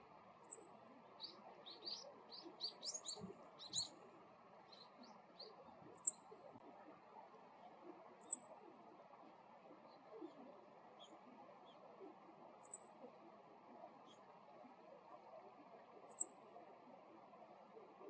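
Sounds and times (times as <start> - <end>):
faint lower bird chirps: 0.0 - 8.9, 9.7 - 18.0.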